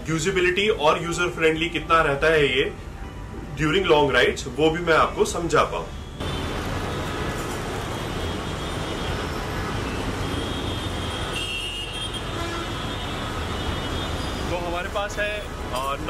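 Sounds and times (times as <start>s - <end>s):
passing vehicles rumble: 0.0s - 16.0s.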